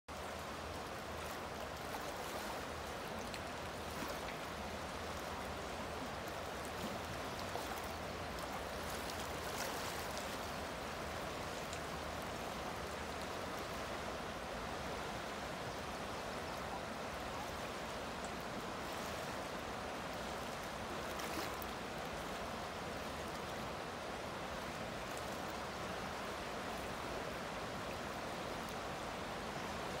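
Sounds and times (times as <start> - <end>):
river rushing over rapids: 0.1 - 30.0.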